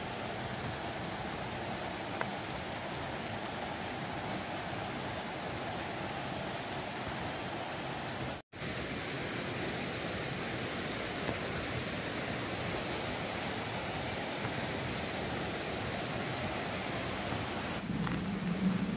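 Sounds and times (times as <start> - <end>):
stream flowing over rocks: 0.0 - 18.2.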